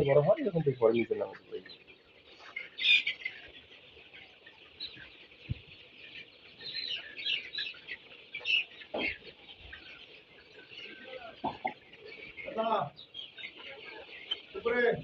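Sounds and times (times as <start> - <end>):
chicks peeping and chirping: 0.0 - 15.0.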